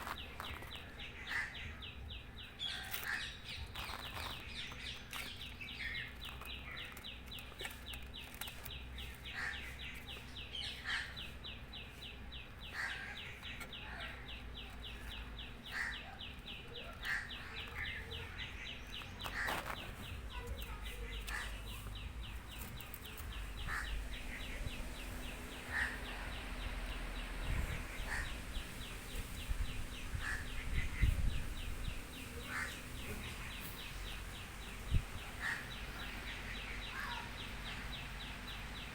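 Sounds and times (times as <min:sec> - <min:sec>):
bird chirping rapidly: 0:00.0 - 0:38.9.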